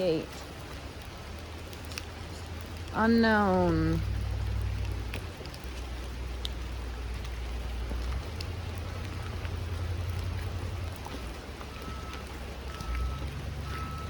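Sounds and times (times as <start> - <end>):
drops ticking: 0.0 - 14.0
steady rain hissing: 0.0 - 14.0
low rumble: 2.6 - 14.0.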